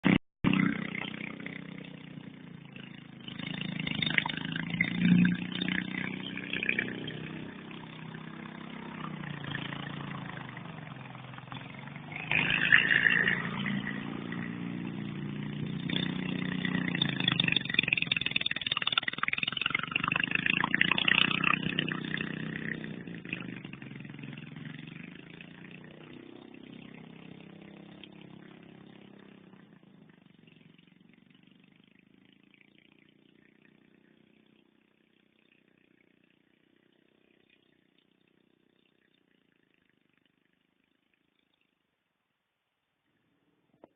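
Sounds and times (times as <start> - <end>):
go-kart engine revving: 0.0 - 41.5.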